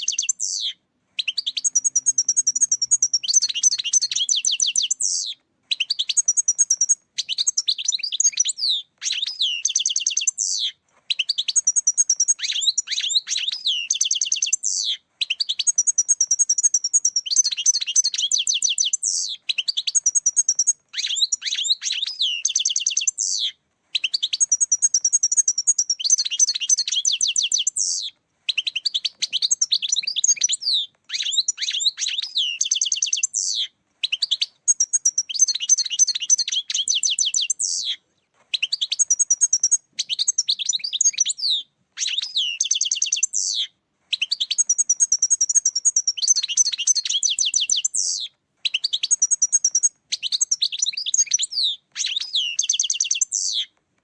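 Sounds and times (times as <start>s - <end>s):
bird twittering song: 0.0s - 53.7s.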